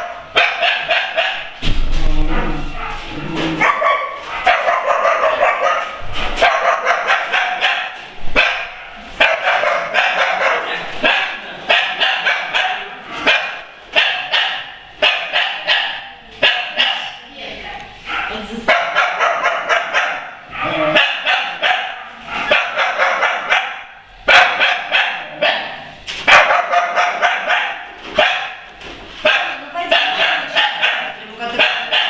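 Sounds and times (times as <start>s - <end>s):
dogs barking: 0.0s - 1.6s, 2.5s - 32.0s.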